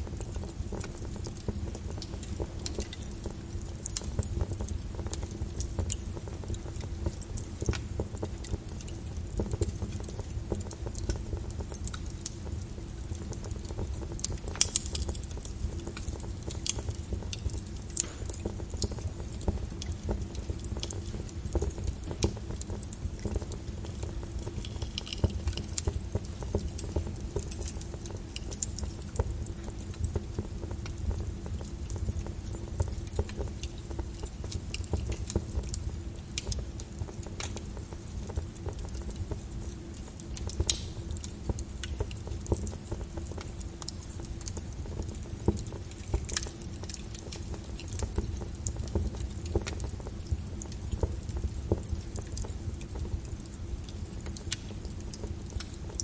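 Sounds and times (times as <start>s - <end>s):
fire crackling and popping: 0.0s - 56.0s
fire low rumble: 0.0s - 56.0s.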